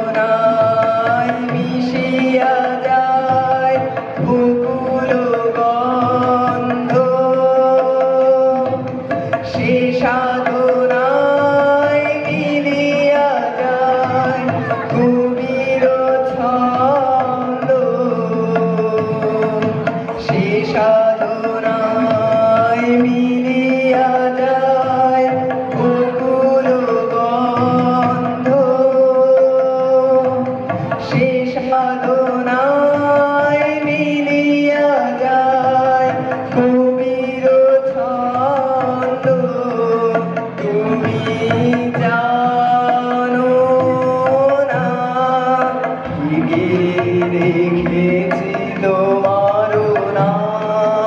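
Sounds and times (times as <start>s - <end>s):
harmonium: 0.0s - 51.0s
tabla: 0.0s - 51.0s
young man singing: 0.0s - 51.0s.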